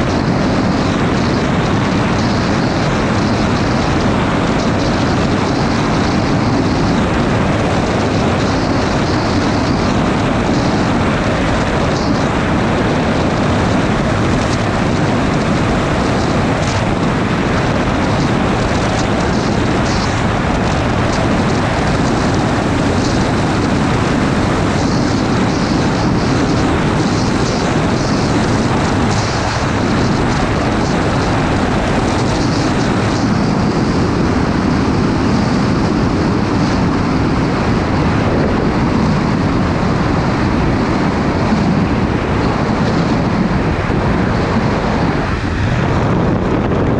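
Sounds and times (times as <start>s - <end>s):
motorcycle engine drone: 0.0s - 46.9s
wind noise on microphone: 0.0s - 46.9s.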